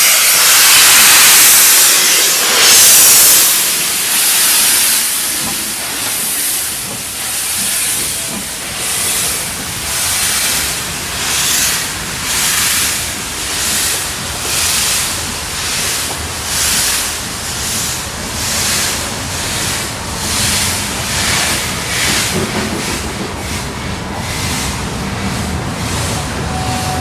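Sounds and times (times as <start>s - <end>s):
steam locomotive chuffing: 0.0s - 27.0s.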